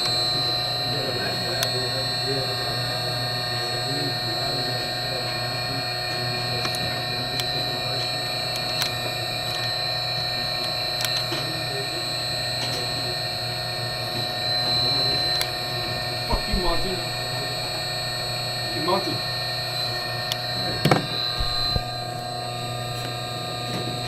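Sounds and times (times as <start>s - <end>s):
faint voices talking: 0.0s - 24.0s
steady machine hum: 0.0s - 24.0s.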